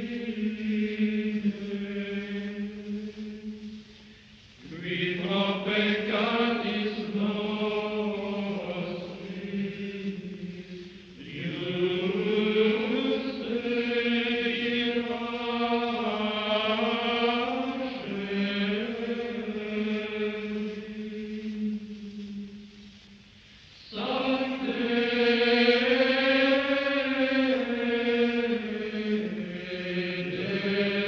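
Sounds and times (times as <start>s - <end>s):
chant-like singing: 0.0s - 4.0s, 4.6s - 22.9s, 23.8s - 31.0s.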